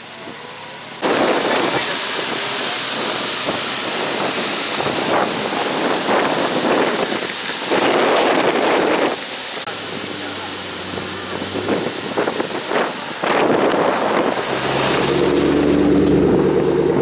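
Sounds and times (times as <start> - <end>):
wind buffeting microphone: 1.0 - 17.0.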